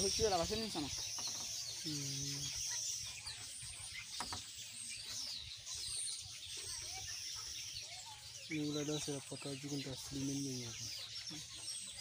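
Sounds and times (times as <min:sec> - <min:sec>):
chicks peeping and chirping: 0:00.0 - 0:12.0.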